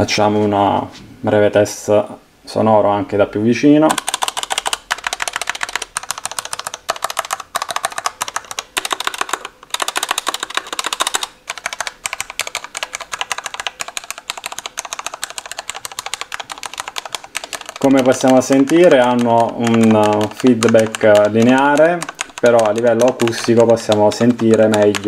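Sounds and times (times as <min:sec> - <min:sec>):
mechanical keyboard typing: 0:03.9 - 0:25.0.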